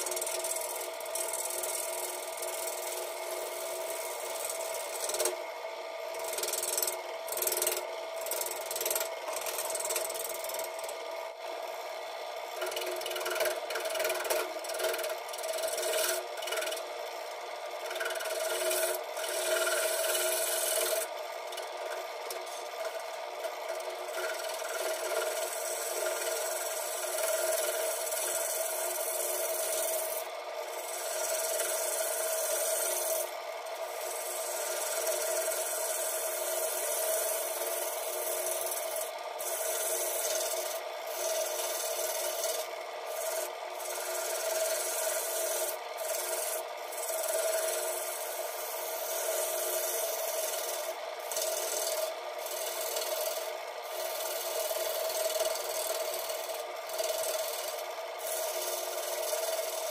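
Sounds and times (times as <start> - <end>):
gouge scraping spinning wood: 0.0 - 59.9
wood lathe humming: 0.0 - 59.9.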